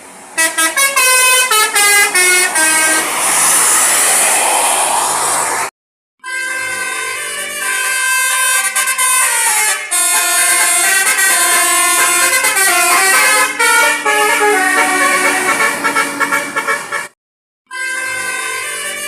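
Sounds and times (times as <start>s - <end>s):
multi-tone air horn tune: 0.4s - 3.2s, 6.2s - 19.0s.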